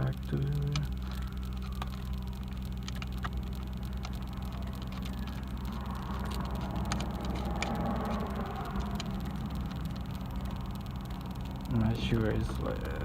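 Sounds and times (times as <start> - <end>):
parts clicking and tapping: 0.0 - 13.0
steady low hum: 0.0 - 13.0.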